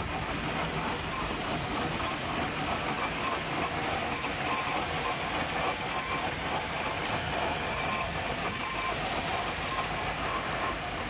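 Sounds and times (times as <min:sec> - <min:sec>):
steam traction engine running: 0:00.0 - 0:11.0.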